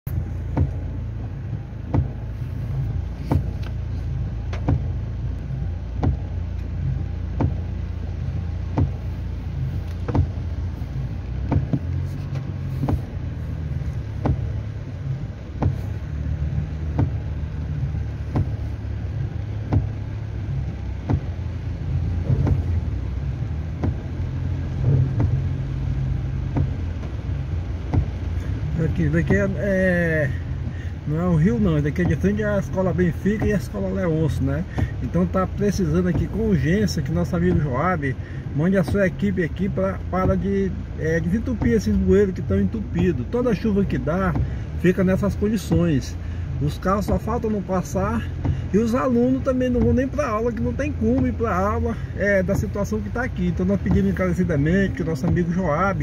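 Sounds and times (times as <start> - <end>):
car engine rumble: 0.0 - 56.0
windshield wipers knocking: 0.1 - 56.0.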